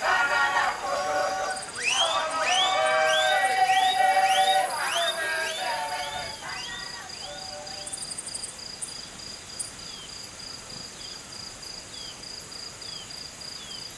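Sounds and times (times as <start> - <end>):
cricket chirping: 0.0 - 13.9.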